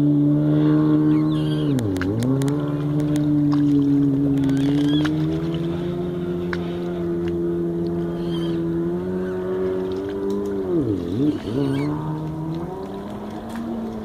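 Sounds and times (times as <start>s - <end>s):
distant jet ski engines: 0.0s - 14.0s.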